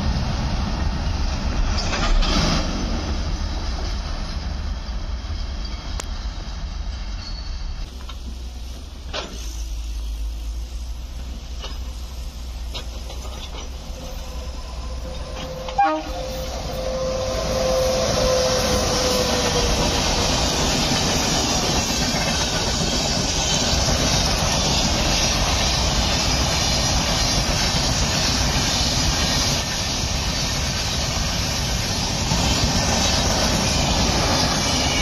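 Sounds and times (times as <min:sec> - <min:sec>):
freight train rumbling past: 0:00.0 - 0:35.0
passenger train rumble: 0:00.0 - 0:35.0
train wheels clattering: 0:01.4 - 0:35.0.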